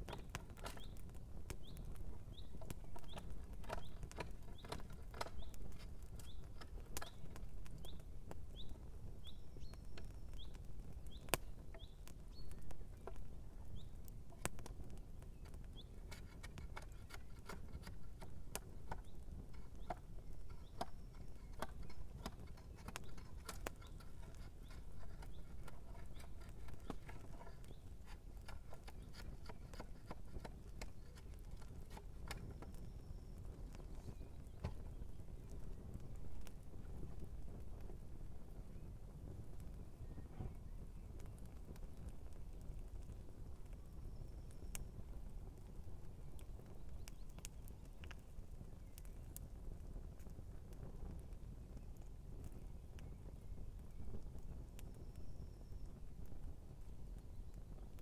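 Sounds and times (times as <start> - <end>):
campfire crackling and popping: 0.0 - 39.9, 41.0 - 58.0.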